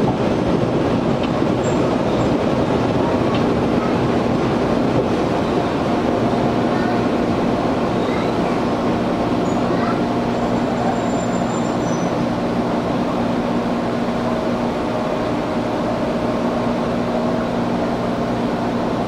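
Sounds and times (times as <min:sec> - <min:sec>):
air conditioning running: 0:00.0 - 0:19.0
train wheels rumbling: 0:00.0 - 0:19.0.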